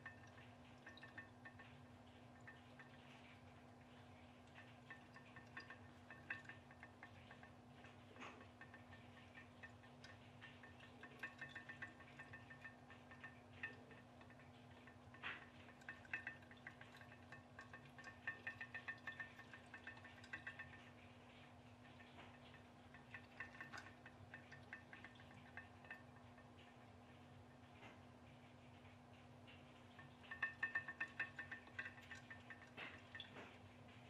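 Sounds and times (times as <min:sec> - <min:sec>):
pop-pop boat ticking: 0:00.0 - 0:34.0.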